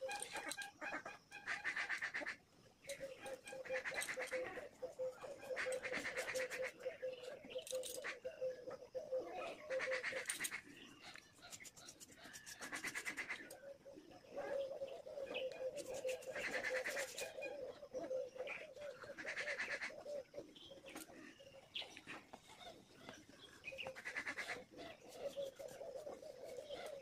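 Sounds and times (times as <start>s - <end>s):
birds chirping rapidly: 0.0s - 27.0s
pigeons cooing: 0.0s - 27.0s.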